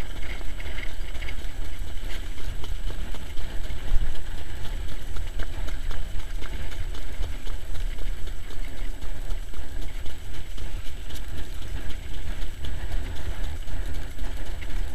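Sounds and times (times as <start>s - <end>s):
cart wheels rolling on track: 0.0s - 14.9s
horse hoofbeats: 0.0s - 14.9s
wind rumble on microphone: 0.0s - 14.9s.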